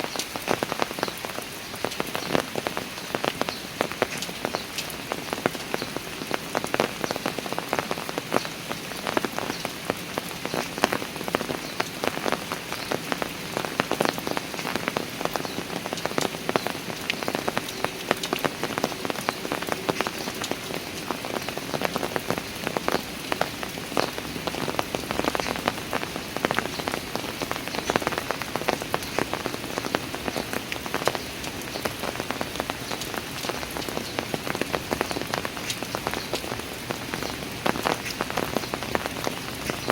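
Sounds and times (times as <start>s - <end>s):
rain pattering on hard surfaces: 0.0s - 39.9s.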